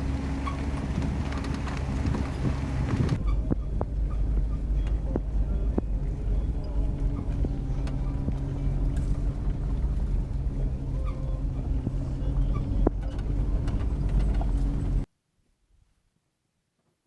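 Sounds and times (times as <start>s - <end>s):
low engine drone: 0.0s - 15.1s.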